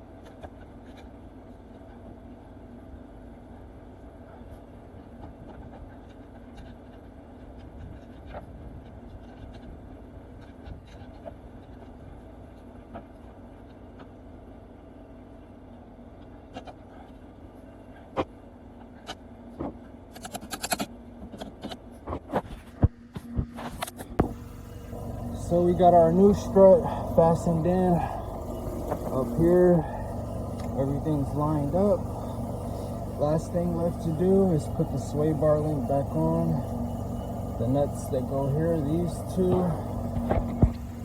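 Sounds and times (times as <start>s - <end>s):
low background hum: 0.0s - 41.0s.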